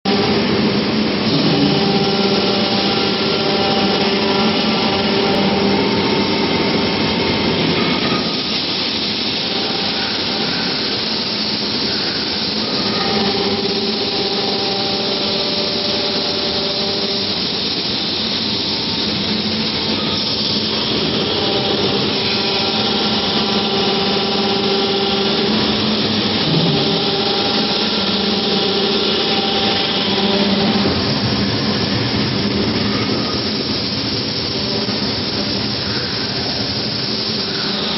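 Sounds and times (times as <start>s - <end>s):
industrial machine rushing noise: 0.0s - 37.9s
motor hum: 0.1s - 37.9s.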